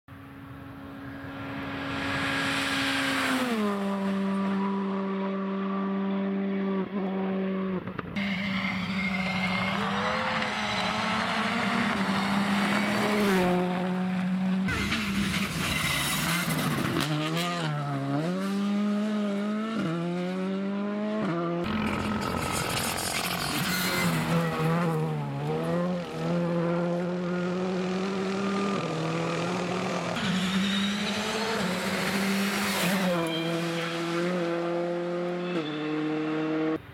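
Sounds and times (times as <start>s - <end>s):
rally car engines revving: 0.4s - 36.8s.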